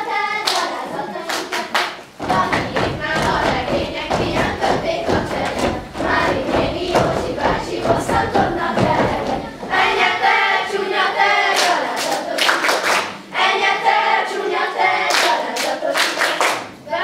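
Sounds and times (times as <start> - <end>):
group singing unaccompanied: 0.0 - 17.0
rhythmic hand claps: 0.4 - 10.1, 11.3 - 13.7, 15.0 - 16.8.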